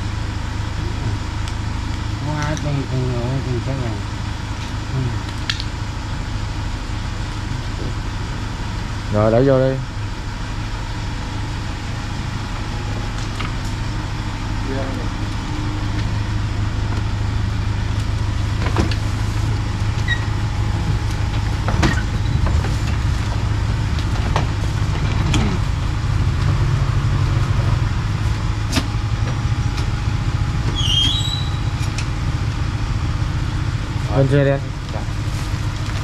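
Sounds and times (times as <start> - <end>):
ambulance engine idling: 0.0 - 36.0.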